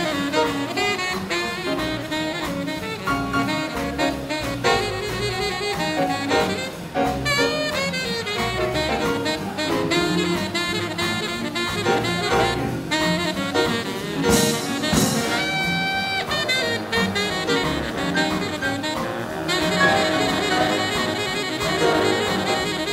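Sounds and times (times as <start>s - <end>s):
big band swing jazz: 0.0s - 22.9s.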